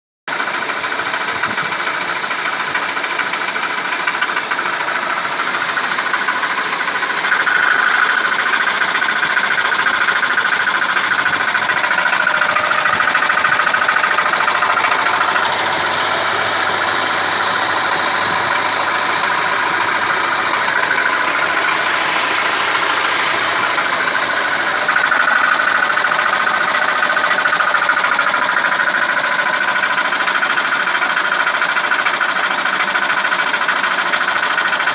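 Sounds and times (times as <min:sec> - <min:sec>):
car engine running with knock: 0:00.3 - 0:34.9.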